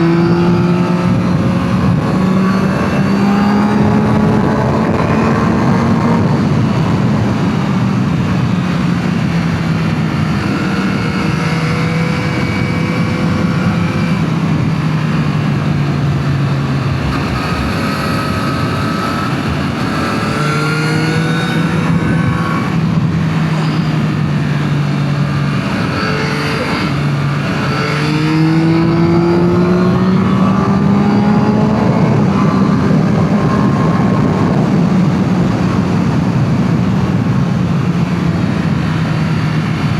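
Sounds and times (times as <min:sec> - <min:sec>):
motorcycle engine under way: 0:00.0 - 0:39.9
rush of riding wind: 0:00.0 - 0:39.9.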